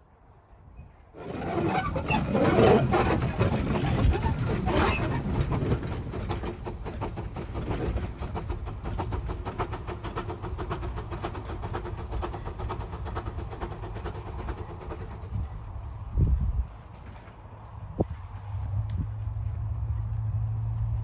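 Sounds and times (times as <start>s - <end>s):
steam locomotive beats: 1.2s - 19.4s.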